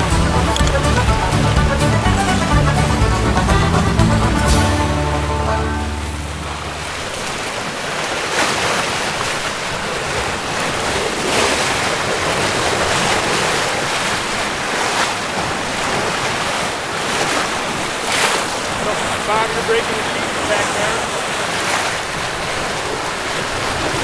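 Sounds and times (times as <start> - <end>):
bow wave splashing along hull: 0.0 - 24.0.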